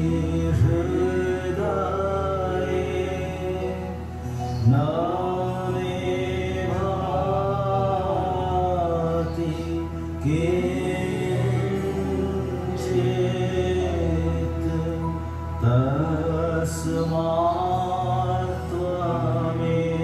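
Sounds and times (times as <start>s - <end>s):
person chanting: 0.0s - 20.0s
steady low drone: 0.0s - 20.0s.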